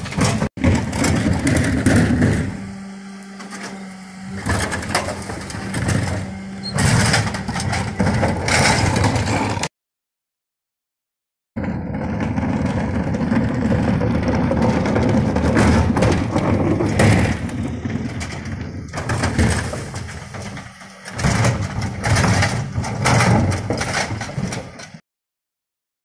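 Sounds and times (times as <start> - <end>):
bins clattering on lifter: 0.0 - 9.7, 12.0 - 25.0
diesel truck engine under load: 0.0 - 9.7, 11.6 - 25.0.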